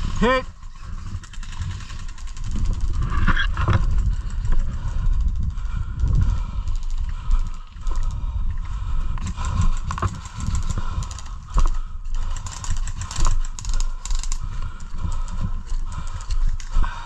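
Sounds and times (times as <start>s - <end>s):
gear knocking and rustling: 0.0s - 17.0s
low rumble of movement: 0.0s - 17.0s.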